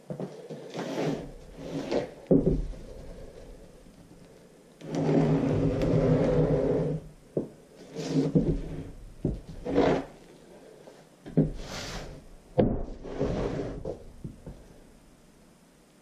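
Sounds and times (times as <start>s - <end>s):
board sliding scrapes: 0.2s - 7.1s, 7.7s - 14.7s.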